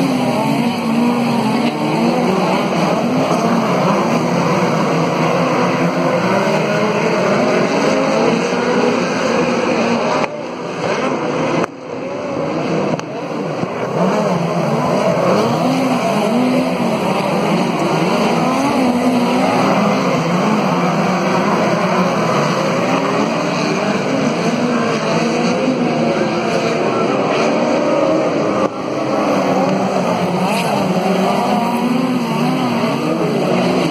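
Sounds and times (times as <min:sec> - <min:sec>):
race car engines passing: 0:00.0 - 0:33.9.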